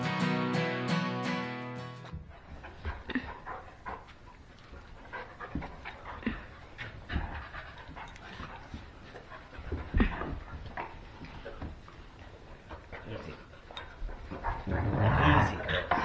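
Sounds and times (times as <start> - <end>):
dogs panting: 2.0 - 16.0.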